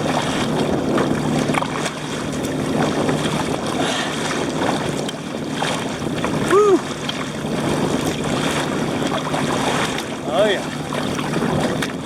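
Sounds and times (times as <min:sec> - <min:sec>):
boat engine drone: 0:00.0 - 0:12.0
water splashing around kayak: 0:00.0 - 0:12.0
wind buffeting microphone: 0:00.0 - 0:12.0.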